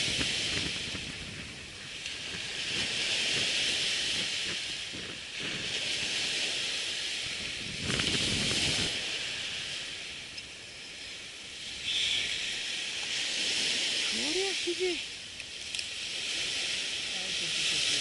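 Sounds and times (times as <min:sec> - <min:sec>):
surf washing onto beach: 0:00.0 - 0:18.0
wind hiss: 0:00.0 - 0:18.0.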